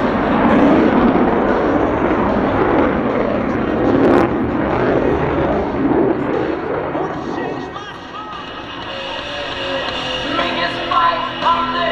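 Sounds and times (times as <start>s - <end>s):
jet engine crackle: 0.0s - 10.8s
fighter jet roaring: 0.0s - 11.9s.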